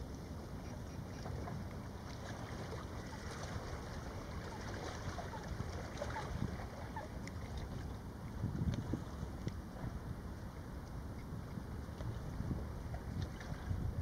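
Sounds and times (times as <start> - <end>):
lake water washing: 0.0 - 14.0
wind buffeting microphone: 2.5 - 14.0.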